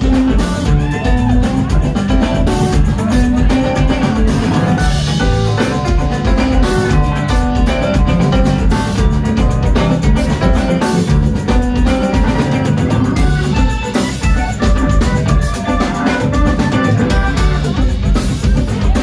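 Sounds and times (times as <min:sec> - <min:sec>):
drum kit: 0:00.0 - 0:19.0
electric bass: 0:00.0 - 0:19.0
electric guitar: 0:00.0 - 0:19.0
keyboard: 0:00.0 - 0:19.0.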